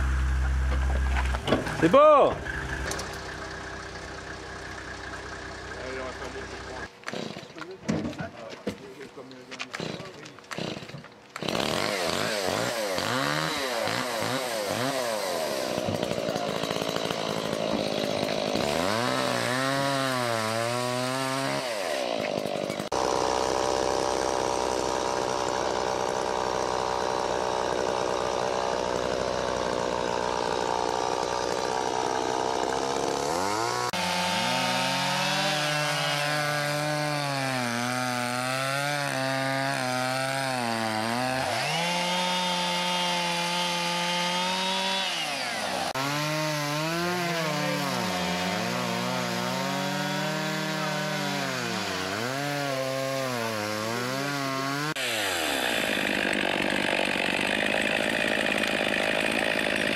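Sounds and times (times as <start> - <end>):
chainsaws revving and cutting logs: 0.0 - 7.8, 8.7 - 59.9.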